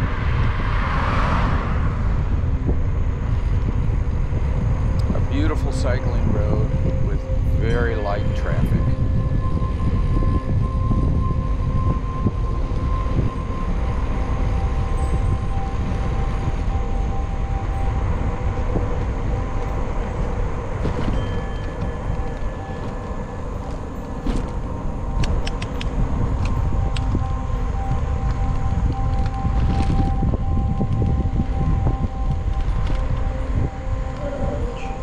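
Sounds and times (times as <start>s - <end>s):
bicycle tyre and road noise: 0.0s - 35.0s
wind rushing over microphone: 0.0s - 35.0s
faint steady whine: 1.6s - 35.0s.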